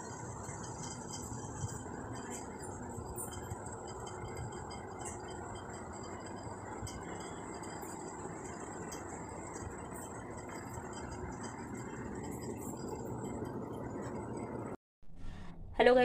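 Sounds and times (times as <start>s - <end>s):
low rumbling background noise: 0.0s - 16.0s.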